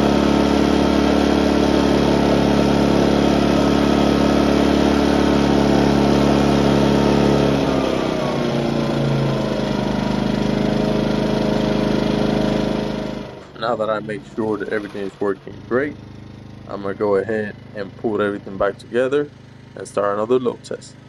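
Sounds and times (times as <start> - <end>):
generator engine running: 0.0 - 21.0.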